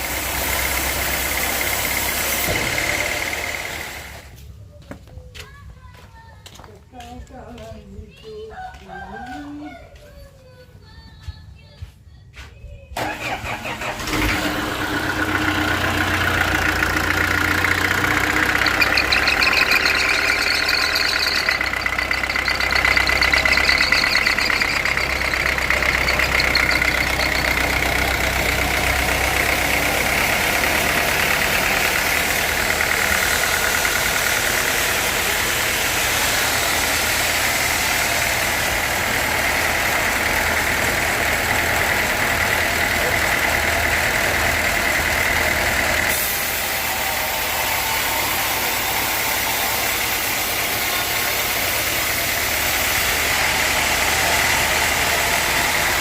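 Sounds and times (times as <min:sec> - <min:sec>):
sawmill machinery engine whining: 0:00.0 - 0:04.5, 0:13.0 - 0:56.0.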